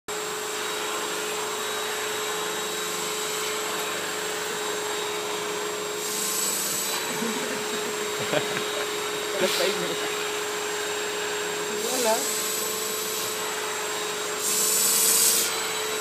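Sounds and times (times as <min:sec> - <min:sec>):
vacuum cleaner running: 0:00.1 - 0:16.0.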